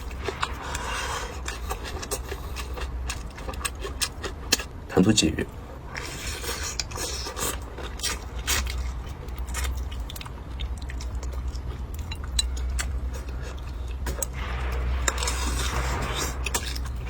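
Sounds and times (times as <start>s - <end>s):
person chewing food: 0.0s - 4.8s, 5.9s - 17.0s
low hum: 0.0s - 7.0s, 7.6s - 17.0s.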